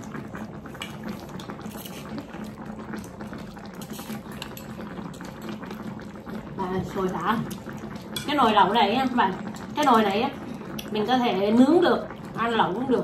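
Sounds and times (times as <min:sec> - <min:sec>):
broth boiling and bubbling: 0:00.0 - 0:13.0.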